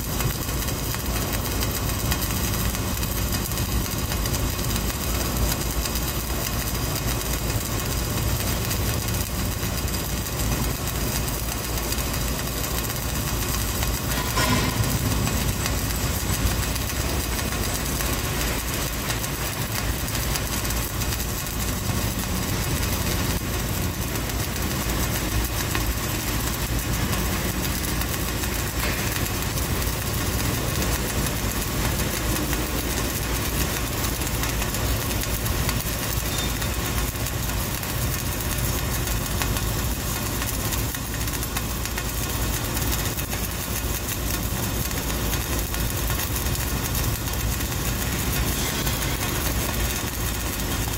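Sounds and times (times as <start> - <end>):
welding arc crackling: 0.0 - 50.9.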